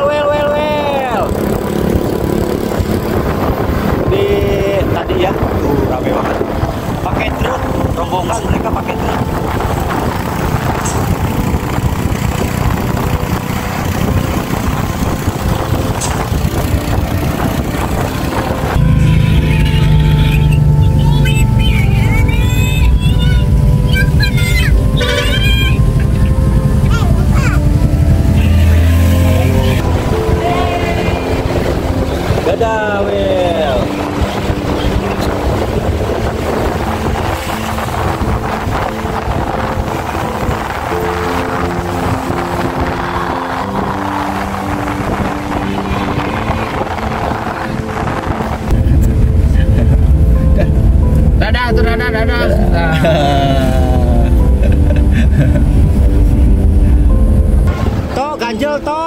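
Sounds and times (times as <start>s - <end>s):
wind buffeting microphone: 0.0s - 52.0s, 52.6s - 58.5s
road noise: 0.0s - 59.0s
vehicle engine rumble: 1.1s - 58.3s.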